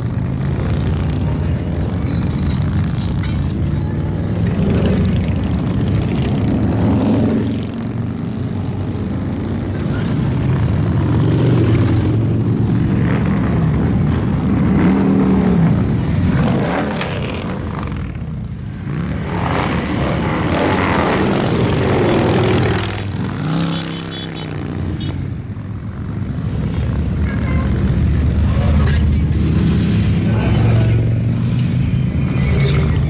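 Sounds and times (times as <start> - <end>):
motorcycles riding past: 0.0 - 33.0.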